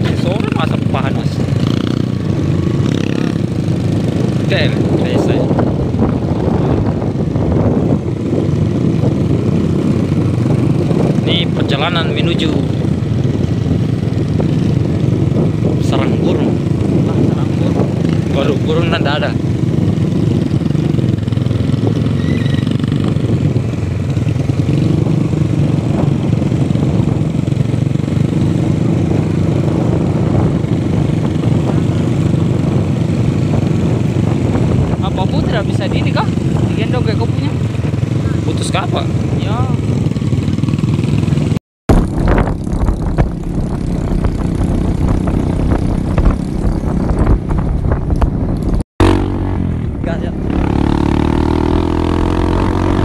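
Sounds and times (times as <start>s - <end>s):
motorcycle engines droning: 0.0s - 53.0s
wind buffeting microphone: 0.0s - 53.0s.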